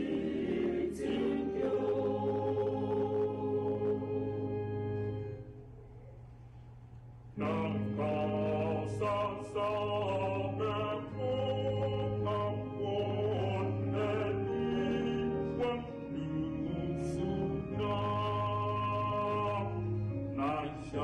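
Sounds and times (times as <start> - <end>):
choir singing: 0.0 - 5.4, 7.4 - 21.0.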